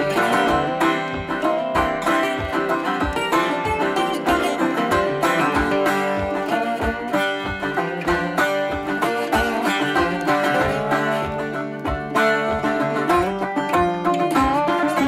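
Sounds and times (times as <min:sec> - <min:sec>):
upbeat plucked-string music: 0:00.0 - 0:15.0.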